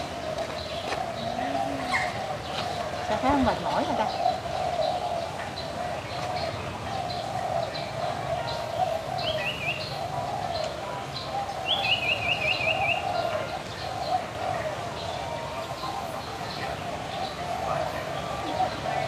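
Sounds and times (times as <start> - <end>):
background bird calls: 0.0 - 19.0.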